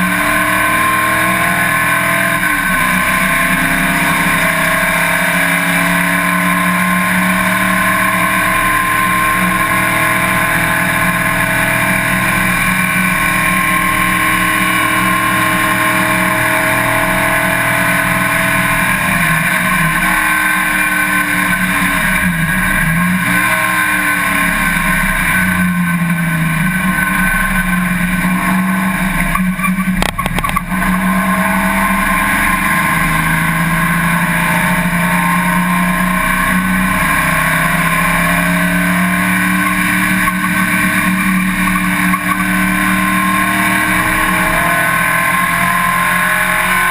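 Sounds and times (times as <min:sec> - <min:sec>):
race car engine: 0:00.0 - 0:46.9.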